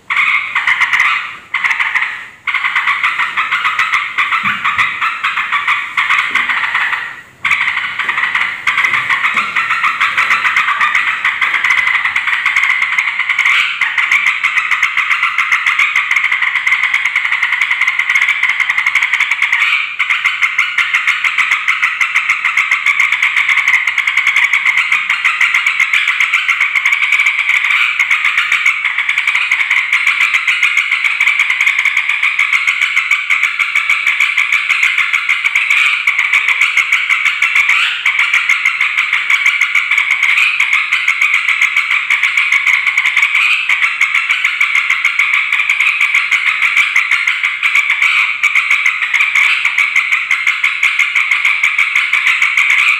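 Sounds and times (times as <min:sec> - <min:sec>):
bulbul chattering calls: 0:00.1 - 0:52.9.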